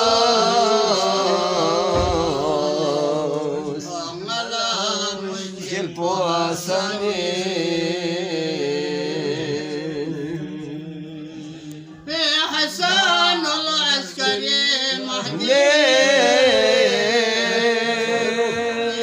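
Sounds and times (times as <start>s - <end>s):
man singing: 0.0s - 19.0s.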